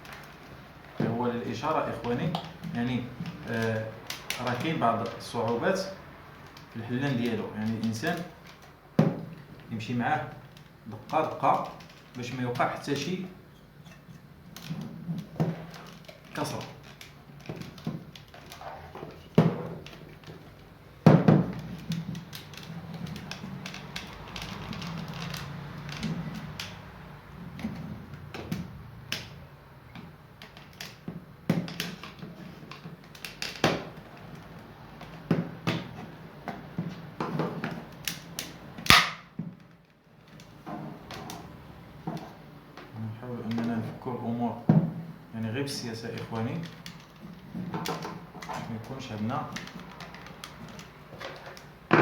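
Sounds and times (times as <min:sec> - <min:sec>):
plastic parts clicking and knocking: 0:00.0 - 0:52.0.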